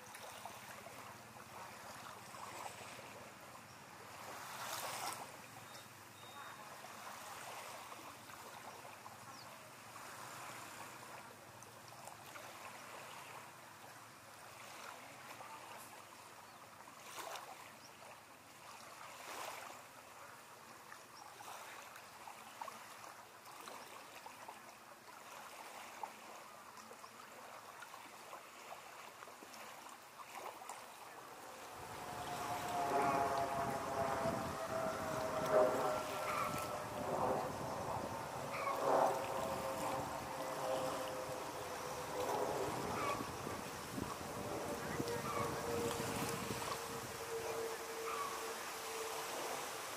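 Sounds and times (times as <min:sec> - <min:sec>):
small waves lapping on sand: 0:00.0 - 0:49.9.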